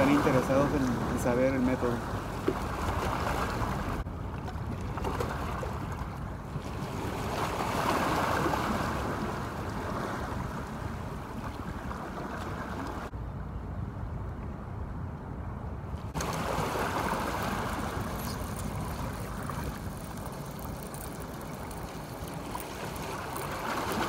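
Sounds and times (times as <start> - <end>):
sea water washing ashore: 0.0 - 13.1, 15.9 - 24.0
wind rumbling on microphone: 0.0 - 24.0.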